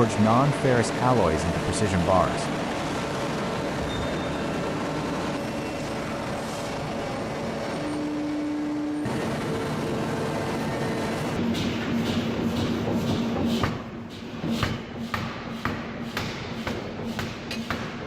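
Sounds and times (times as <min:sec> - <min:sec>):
heavy industrial machinery: 0:00.0 - 0:18.0.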